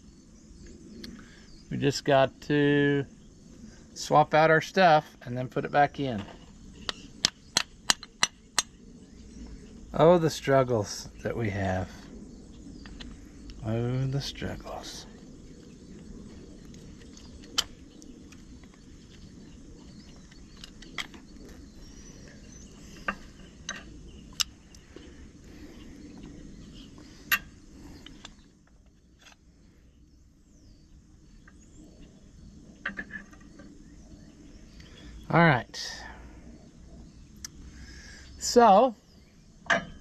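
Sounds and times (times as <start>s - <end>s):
low steady background noise: 0.0s - 40.0s.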